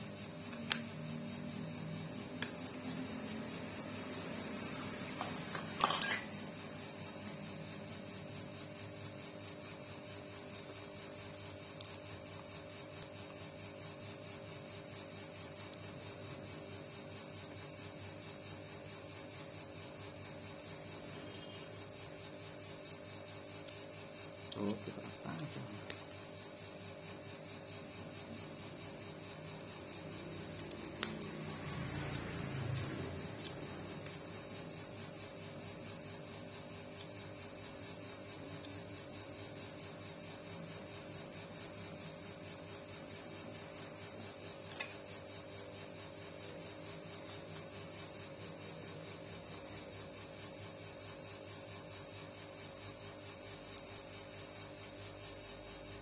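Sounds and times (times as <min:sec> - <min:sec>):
small motor mechanism running: 0:00.0 - 0:56.0.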